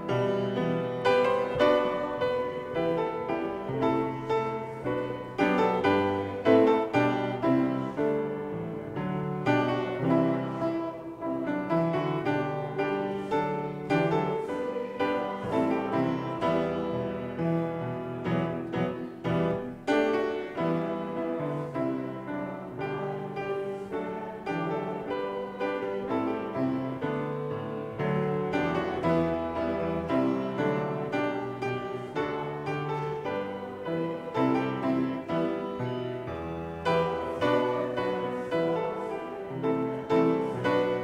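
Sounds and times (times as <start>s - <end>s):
piano playing hymn: 0.0s - 41.0s.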